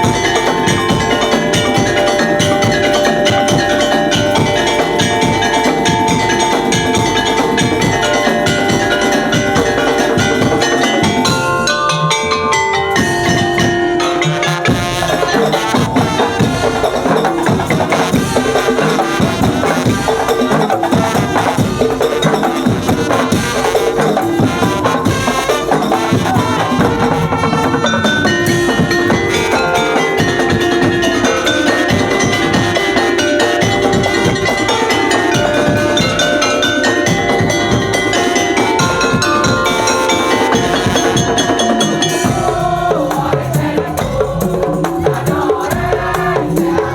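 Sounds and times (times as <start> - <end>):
drums: 0.0 - 46.9
tuned bells melody: 0.0 - 46.9.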